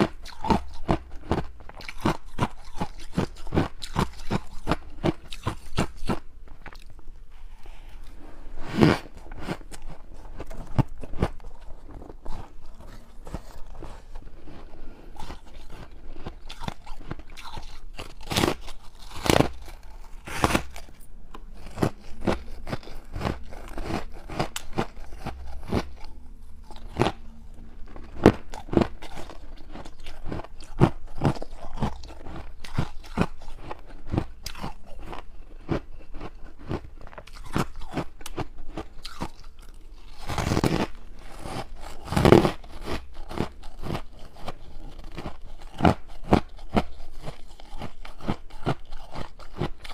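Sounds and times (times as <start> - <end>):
crunching and chewing ice: 0.0 - 7.1, 8.0 - 49.9.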